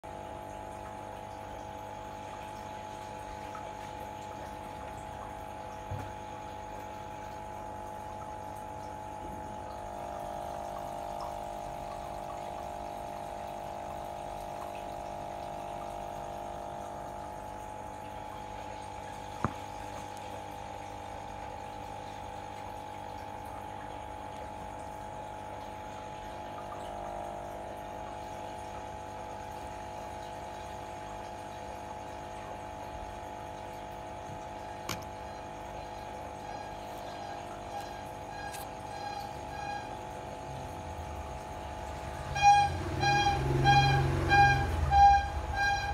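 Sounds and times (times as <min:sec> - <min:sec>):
water bubbling: 0:00.1 - 0:42.2
air pump humming: 0:01.6 - 0:45.9.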